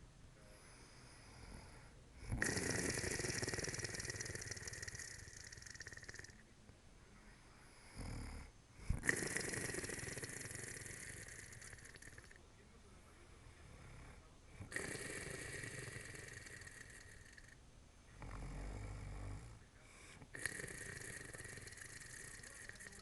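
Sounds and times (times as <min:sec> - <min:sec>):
person snoring: 0:00.7 - 0:06.4, 0:07.7 - 0:12.4, 0:13.7 - 0:17.6, 0:18.2 - 0:23.0
short snort: 0:00.7 - 0:06.4, 0:07.8 - 0:12.4, 0:13.8 - 0:17.6, 0:18.2 - 0:23.0.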